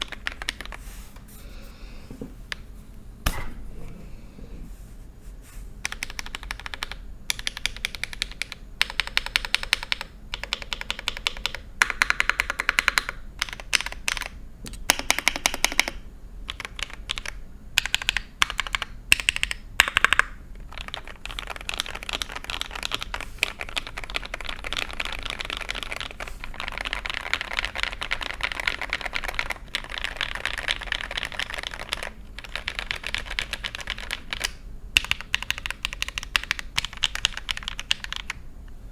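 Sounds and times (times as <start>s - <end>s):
typing on mechanical keyboard: 0.0s - 0.8s, 5.8s - 38.4s.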